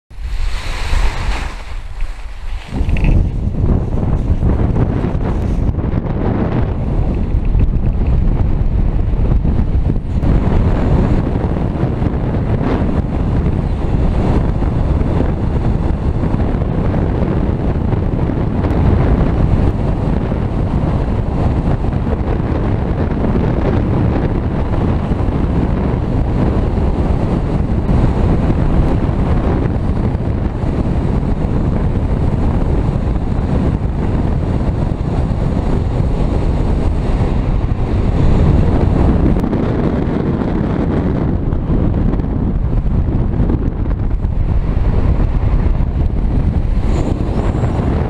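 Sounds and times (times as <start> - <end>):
wind noise on microphone: 0.1 - 48.0.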